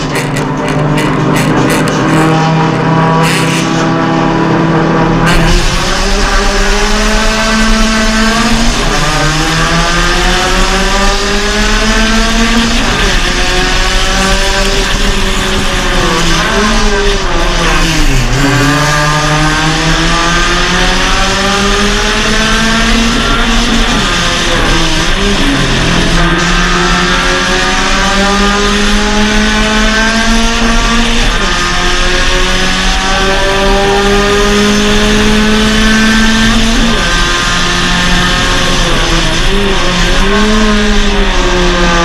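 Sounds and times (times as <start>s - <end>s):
race car engine accelerating: 0.0s - 42.0s.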